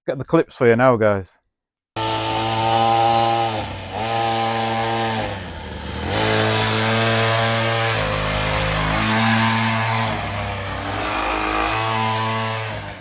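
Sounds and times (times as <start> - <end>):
small motorbike engine revving: 2.0 - 13.0.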